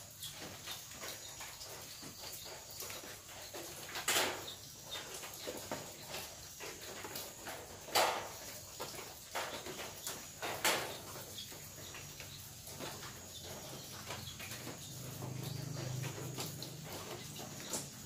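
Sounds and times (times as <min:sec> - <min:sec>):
rain dripping on metal roof: 0:00.0 - 0:18.0.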